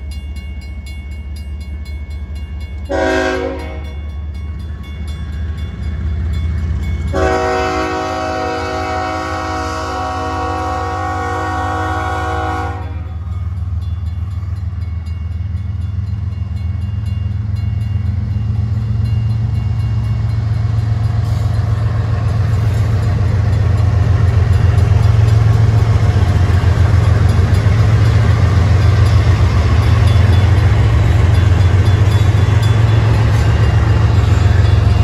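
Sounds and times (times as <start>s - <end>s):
diesel locomotive engine rumble: 0.0s - 35.0s.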